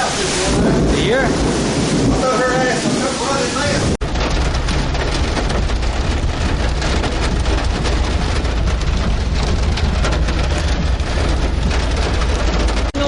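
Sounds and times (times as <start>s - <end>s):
heavy rain pouring: 0.0s - 13.0s
low rumble of wind: 0.0s - 13.0s.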